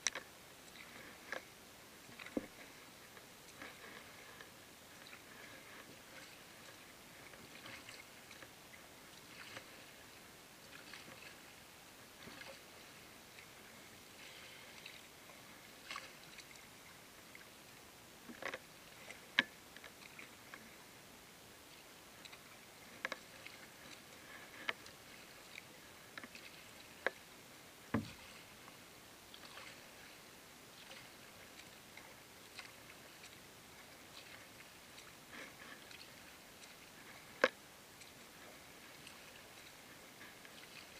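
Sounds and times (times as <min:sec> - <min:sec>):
water lapping against kayak: 0:00.0 - 0:40.9.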